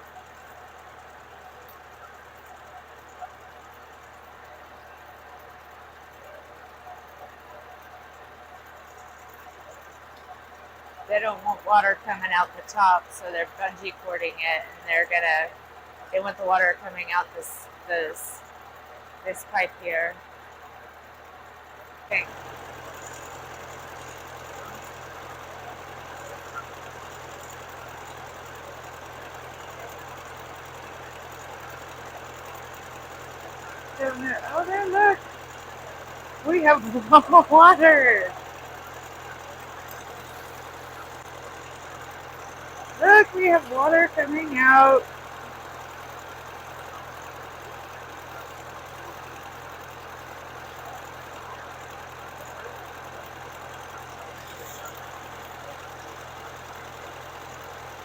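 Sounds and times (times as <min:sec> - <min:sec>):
drilling rig engine humming: 0:00.0 - 0:58.0.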